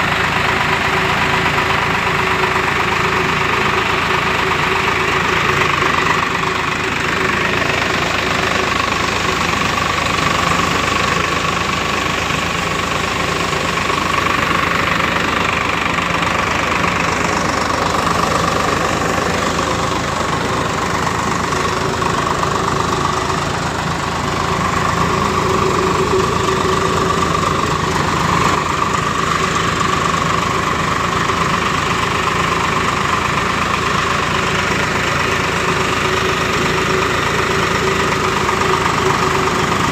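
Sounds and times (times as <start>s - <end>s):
steady machine whine: 0.0s - 39.9s
tractor engine running: 0.0s - 39.9s.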